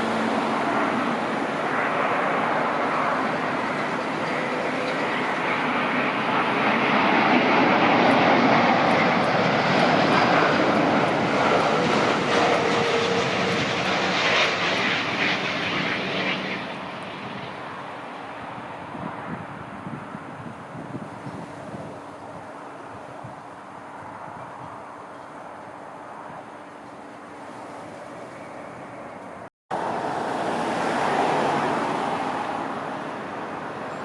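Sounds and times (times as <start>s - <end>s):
jet airliner engine noise: 0.0s - 34.0s.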